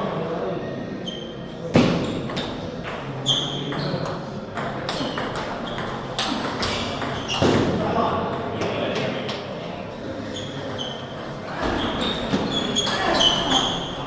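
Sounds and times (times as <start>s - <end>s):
background chatter: 0.0s - 14.0s.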